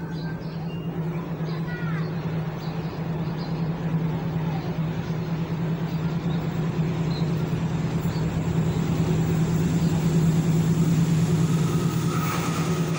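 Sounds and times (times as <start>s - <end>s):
heavy engine humming: 0.0s - 12.9s.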